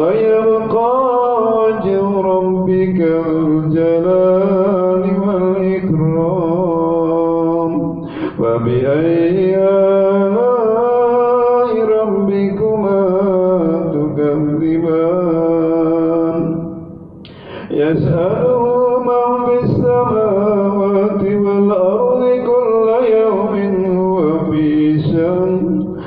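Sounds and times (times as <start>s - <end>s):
man chanting melodically: 0.0s - 17.0s, 17.6s - 26.0s.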